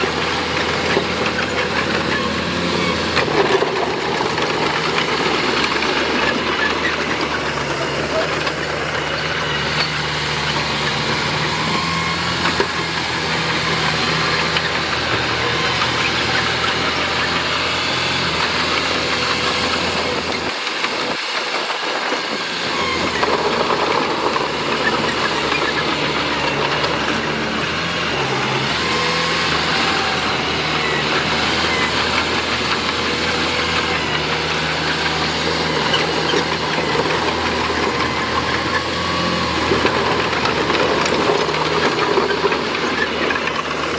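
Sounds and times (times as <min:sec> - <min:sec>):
diesel engine rumbling and clattering: 0:00.0 - 0:43.9.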